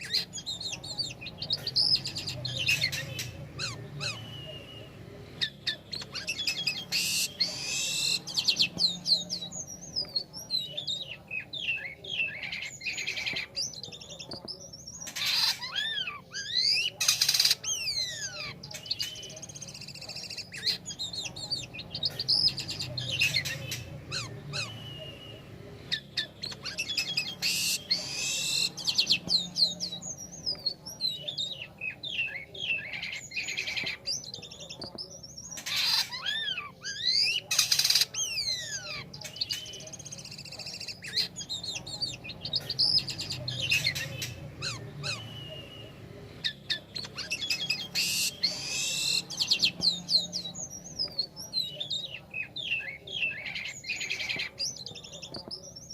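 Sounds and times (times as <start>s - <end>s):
harsh rasping bird notes: 0.0s - 13.9s, 14.9s - 34.4s, 35.3s - 51.7s
starling singing: 0.0s - 55.9s.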